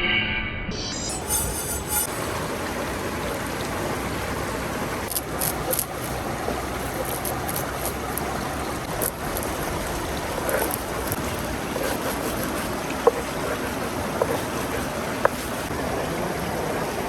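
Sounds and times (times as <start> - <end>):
river water rushing: 1.8 - 17.0.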